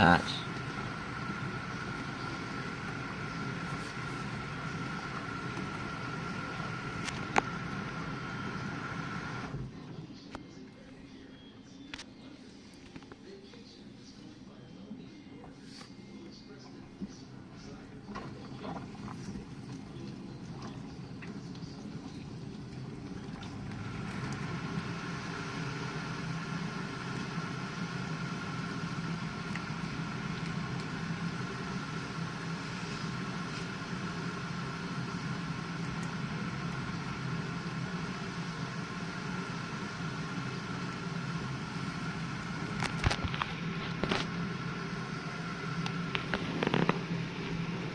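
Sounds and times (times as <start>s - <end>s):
dishwasher motor hum: 0.0s - 47.9s.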